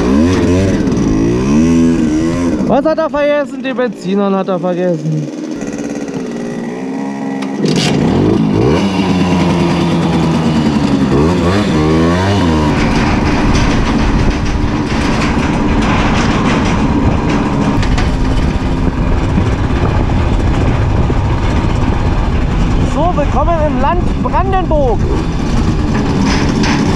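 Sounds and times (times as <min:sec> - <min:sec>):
two-stroke moped engine revving: 0:00.0 - 0:26.9.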